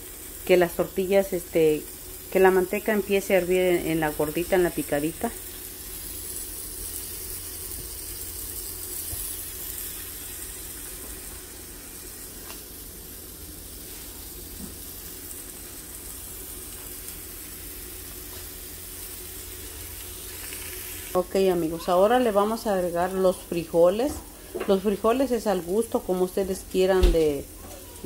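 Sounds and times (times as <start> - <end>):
lard sizzling on hot griddle: 0.0 - 28.0.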